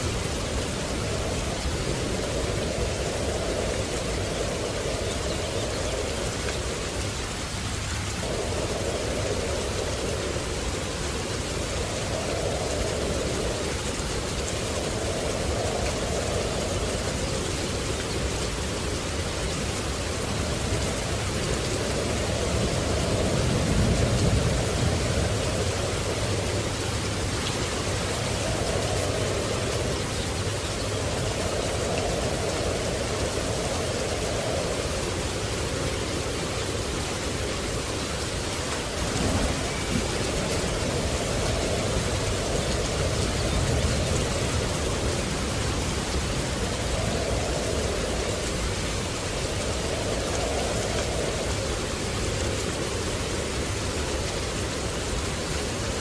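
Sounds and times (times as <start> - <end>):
heavy rain pouring: 0.0 - 56.0
low rumble of thunder: 0.0 - 56.0.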